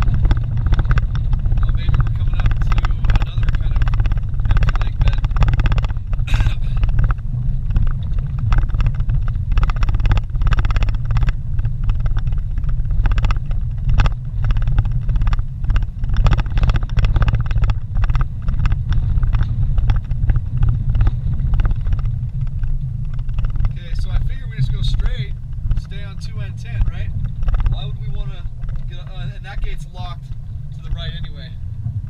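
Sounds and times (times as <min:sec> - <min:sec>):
knocks and rattles: 0:00.0 - 0:32.0
vehicle engine and road rumble: 0:00.0 - 0:32.0.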